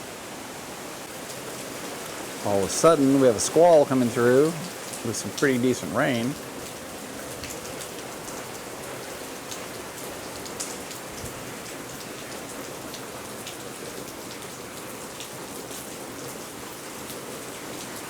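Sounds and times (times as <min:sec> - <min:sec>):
rain falling steadily: 0:00.0 - 0:18.0
sharp ticks of raindrops: 0:01.0 - 0:18.0.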